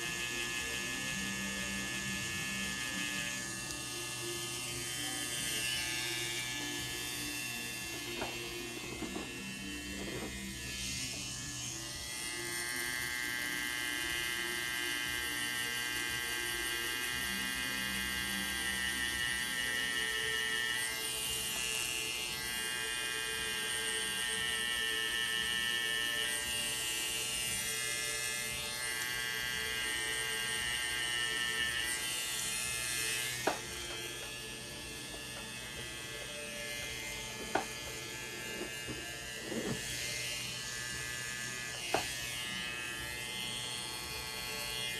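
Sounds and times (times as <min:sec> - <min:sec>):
tattoo machine buzzing: 0:00.0 - 0:44.9.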